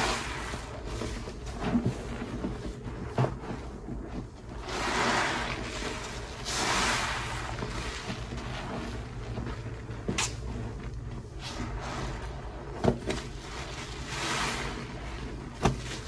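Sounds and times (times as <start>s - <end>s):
crackling fizzing foam: 0.0s - 16.0s
sponge squishing in soap foam: 0.0s - 16.0s.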